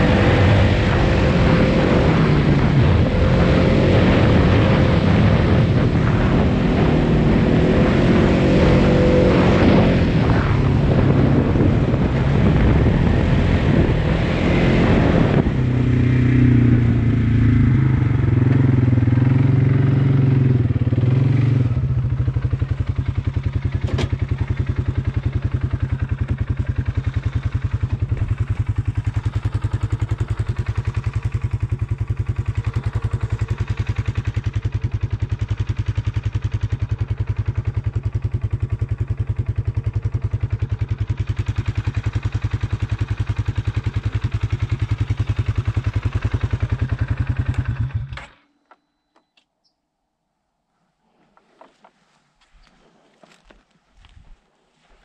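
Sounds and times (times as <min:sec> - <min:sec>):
atv engine running: 0:00.0 - 0:49.0
wind and tyre noise: 0:00.0 - 0:49.0, 0:51.0 - 0:55.0.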